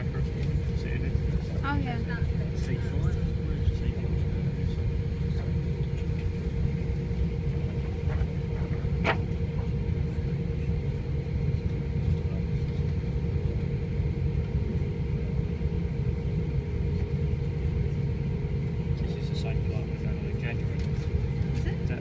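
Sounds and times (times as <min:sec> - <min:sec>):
aircraft cabin rumble: 0:00.0 - 0:22.0
steady hum: 0:00.0 - 0:22.0.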